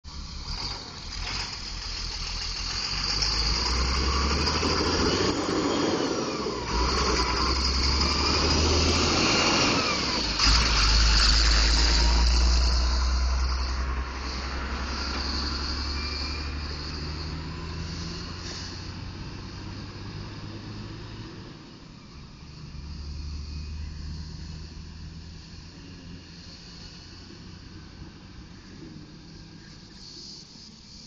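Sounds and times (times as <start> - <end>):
tow truck engine rumbling: 0.0 - 30.7
road or wind noise: 0.0 - 31.0.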